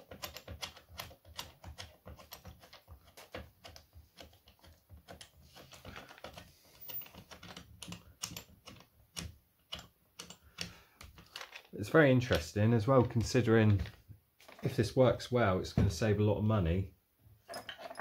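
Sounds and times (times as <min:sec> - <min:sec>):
metal parts clicking and tapping: 0:00.0 - 0:14.7, 0:17.5 - 0:18.0.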